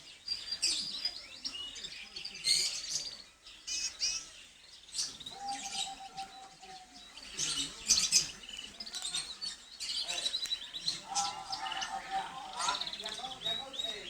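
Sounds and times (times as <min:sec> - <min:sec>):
canaries chirping and trilling: 0:00.0 - 0:14.0.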